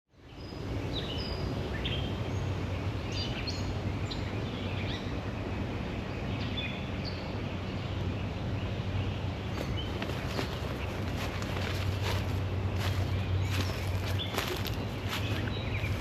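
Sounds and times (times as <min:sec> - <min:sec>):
wild birds chirping: 0:00.1 - 0:16.0
low background hum and rumble: 0:00.2 - 0:16.0.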